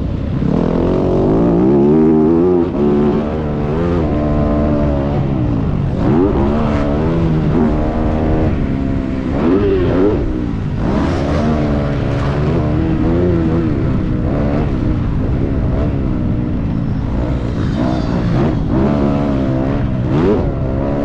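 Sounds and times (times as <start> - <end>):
dirt bike engine revving: 0.4 - 21.0.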